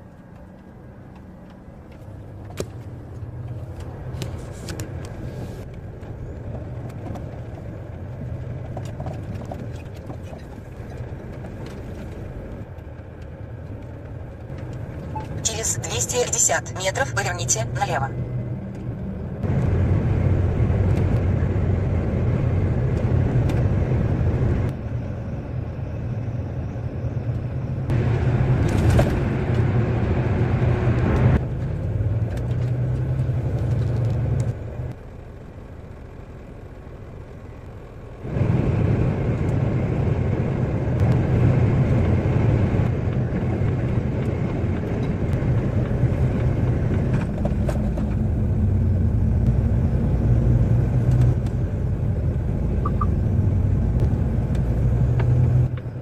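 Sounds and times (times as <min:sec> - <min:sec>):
road noise: 0:00.0 - 0:56.0
truck diesel engine driving: 0:00.0 - 0:56.0.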